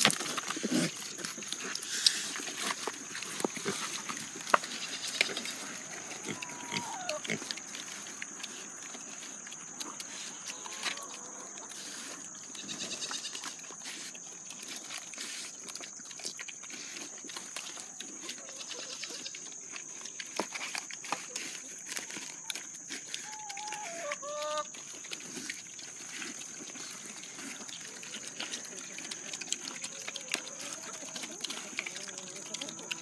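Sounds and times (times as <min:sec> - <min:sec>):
pigs chewing and rooting: 0:00.0 - 0:33.0.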